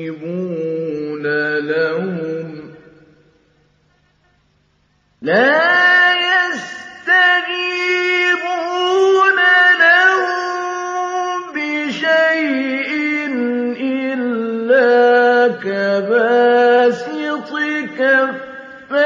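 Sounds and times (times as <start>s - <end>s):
man reciting melodically: 0.0s - 3.3s, 5.2s - 19.0s.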